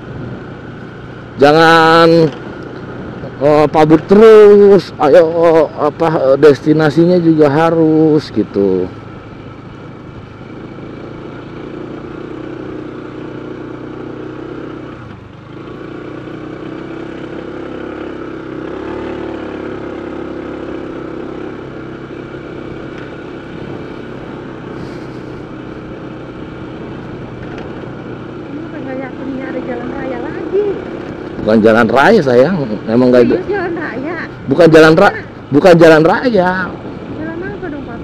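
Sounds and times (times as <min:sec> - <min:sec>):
scooter engine running: 0:00.0 - 0:38.0.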